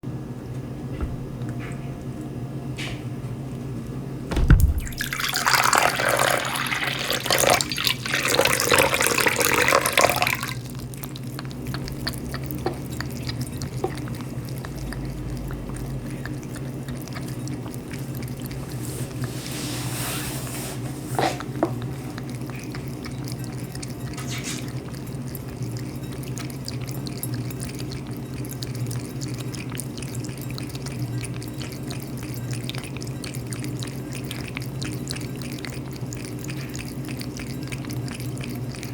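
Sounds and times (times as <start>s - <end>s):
cat lapping water: 0.4s - 3.8s, 4.6s - 38.9s
water running: 3.5s - 38.9s
water dripping: 4.3s - 19.4s, 21.4s - 38.9s.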